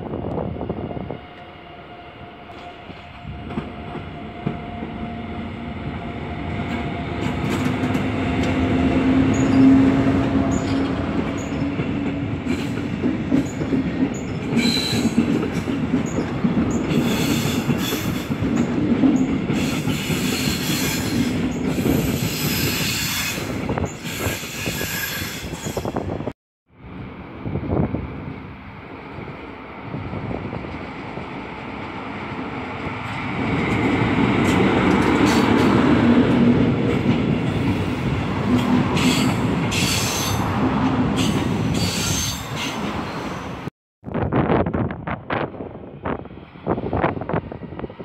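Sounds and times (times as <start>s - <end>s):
electric locomotive passing: 0.0s - 48.0s.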